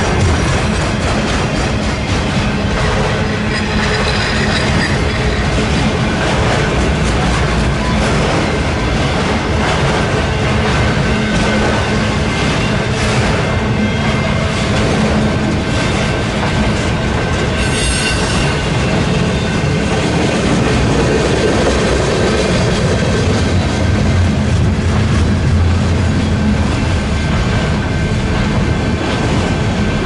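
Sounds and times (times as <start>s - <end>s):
train wheels rumbling and clacking: 0.0s - 30.0s.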